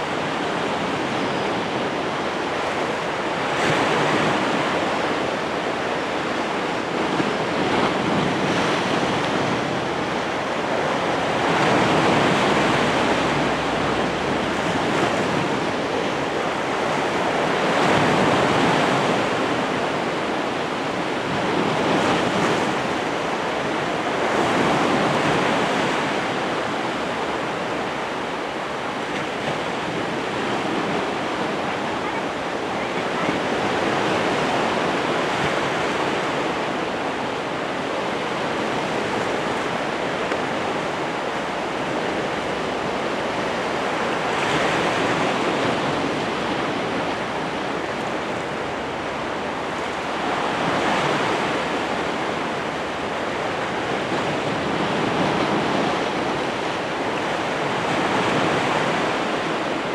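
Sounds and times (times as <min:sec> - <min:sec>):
sea surf washing in: 0:00.0 - 0:59.9
wind buffeting microphone: 0:00.0 - 0:59.9.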